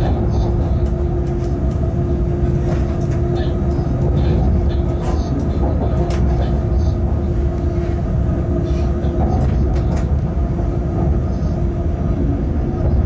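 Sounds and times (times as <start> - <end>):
constant hum: 0.0 - 13.0
locomotive low rumble: 0.0 - 13.0.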